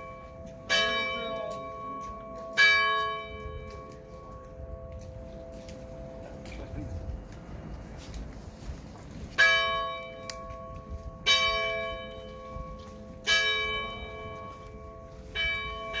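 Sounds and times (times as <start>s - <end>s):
church bell tolling: 0.0s - 7.2s, 9.3s - 16.0s.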